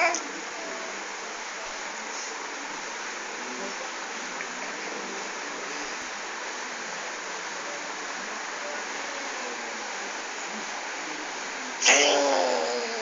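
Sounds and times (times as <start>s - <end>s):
faint voice: 0.0s - 2.6s, 3.3s - 13.0s.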